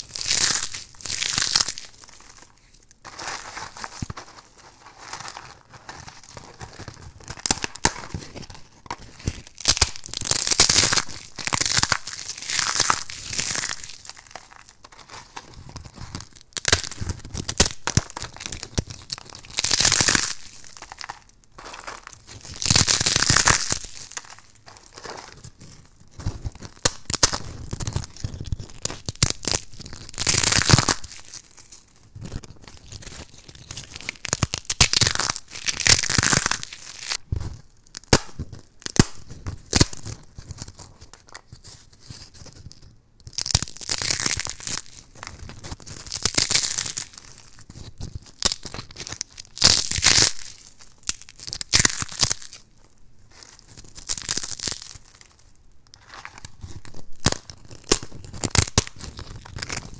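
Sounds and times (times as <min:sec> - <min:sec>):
dry soap crackling and crunching: 0:00.0 - 0:59.9.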